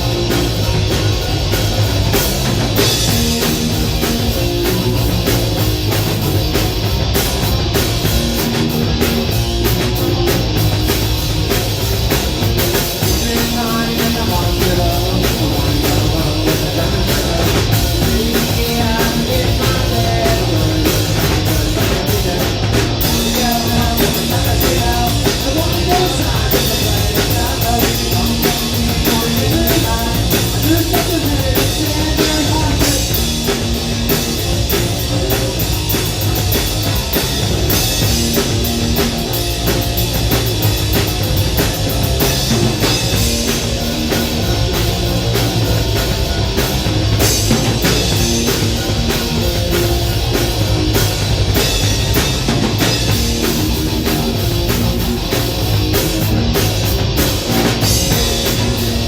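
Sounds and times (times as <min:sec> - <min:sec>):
punk rock band playing: 0:00.0 - 0:59.0.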